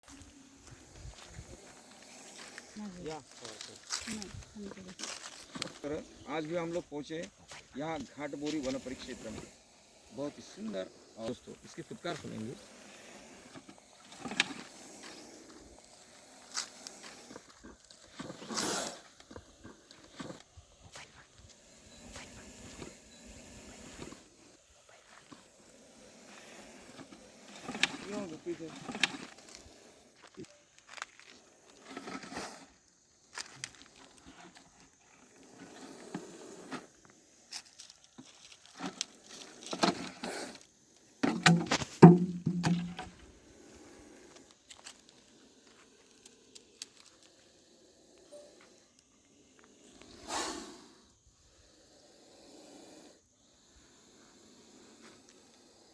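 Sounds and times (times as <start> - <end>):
cobra hissing: 0.0 - 55.9.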